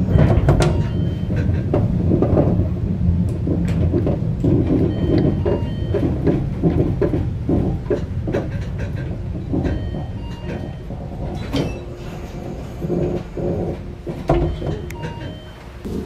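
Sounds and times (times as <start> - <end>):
knocks and clicks: 0.0 - 16.0
train low rumble: 0.0 - 16.0.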